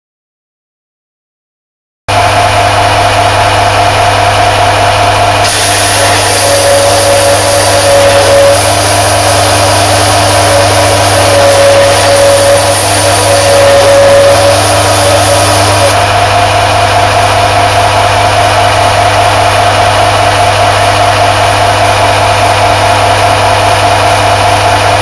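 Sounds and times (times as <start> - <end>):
gas burner roaring: 2.1 - 25.0.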